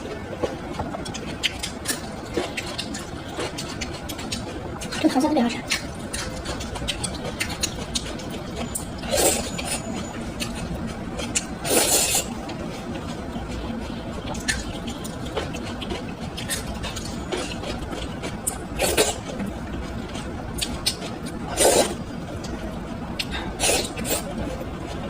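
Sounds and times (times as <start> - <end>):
noisy eating bursts: 0.0 - 25.0
chewing with small clicks: 0.4 - 11.5, 12.2 - 21.4, 22.4 - 25.0.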